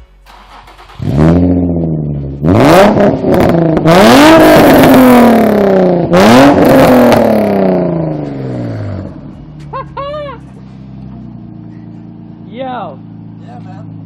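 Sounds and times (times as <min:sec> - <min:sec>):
car engine revving: 0:00.2 - 0:14.0.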